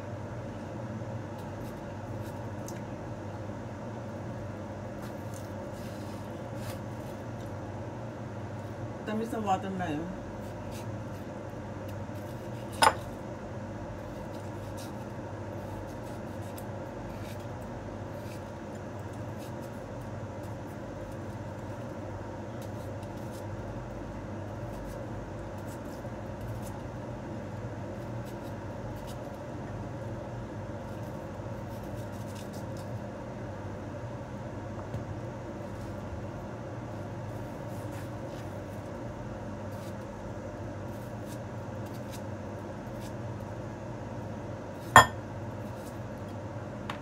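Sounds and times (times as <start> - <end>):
low background hum: 0.0 - 47.0.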